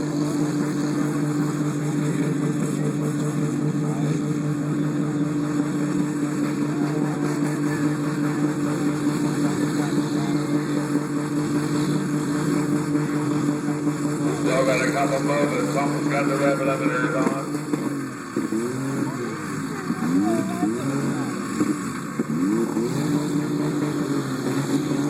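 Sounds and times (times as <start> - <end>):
car engines revving high: 0.0 - 25.0.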